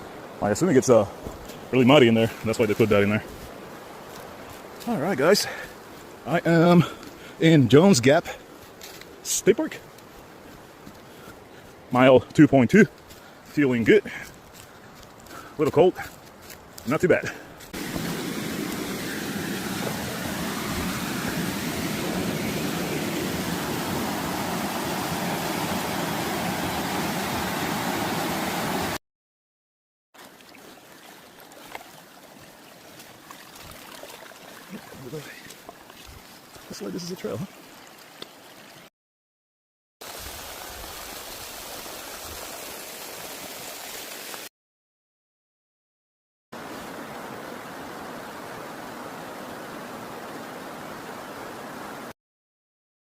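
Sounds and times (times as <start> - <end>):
fast-flowing water rushing: 0.0 - 16.1, 16.9 - 29.0, 30.2 - 38.9, 40.0 - 44.5, 46.6 - 52.1.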